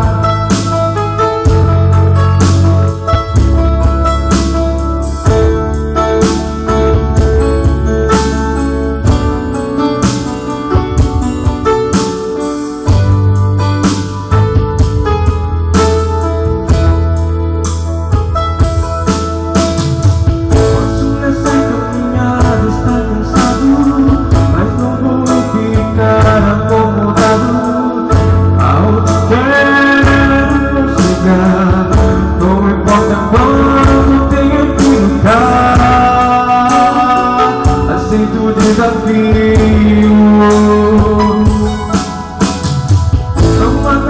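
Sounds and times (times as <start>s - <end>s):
bass and guitar: 0.0s - 44.0s
drum kit beat: 0.0s - 44.0s
sliding melody line: 0.0s - 44.0s.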